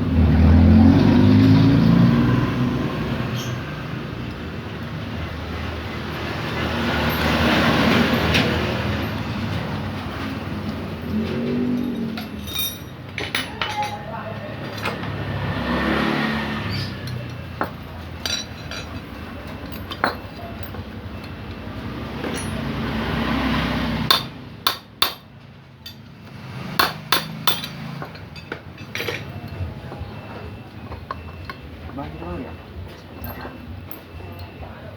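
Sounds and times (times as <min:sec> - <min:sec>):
metal tools clinking on engine parts: 0:04.2 - 0:23.4, 0:24.1 - 0:34.9.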